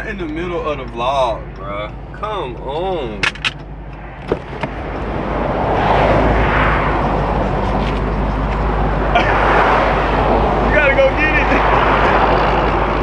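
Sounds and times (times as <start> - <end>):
low car rumble: 0.0 - 13.0
road and wind noise: 0.0 - 13.0.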